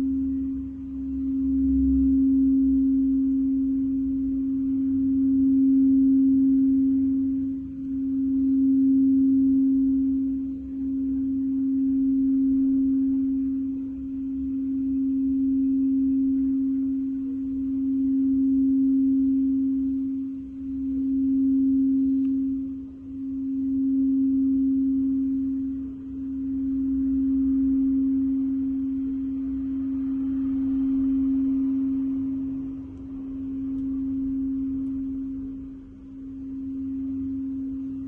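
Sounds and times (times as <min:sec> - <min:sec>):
singing bowl tone: 0:00.0 - 0:38.0.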